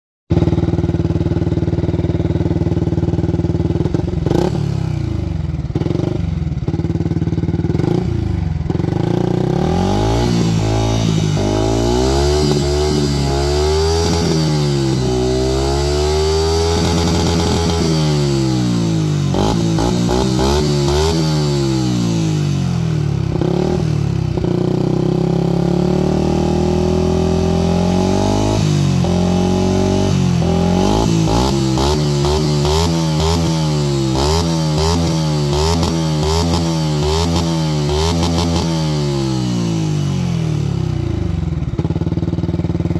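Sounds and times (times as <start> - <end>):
motorcycle engine idling and revving: 0.3 - 42.9.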